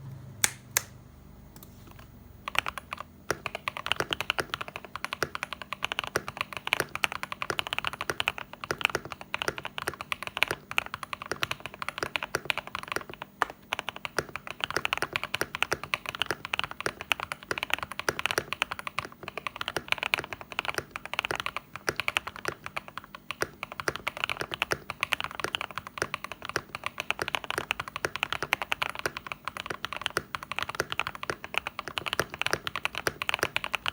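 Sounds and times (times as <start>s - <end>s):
mechanical keyboard typing: 1.6s - 33.9s.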